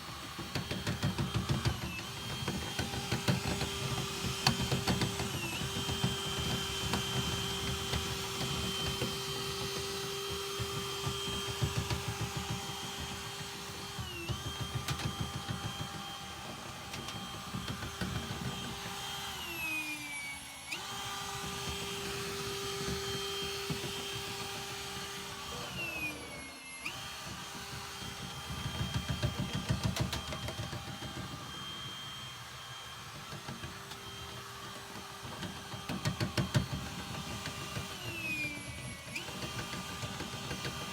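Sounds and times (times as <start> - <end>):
small electric motor whining: 0.0 - 40.9.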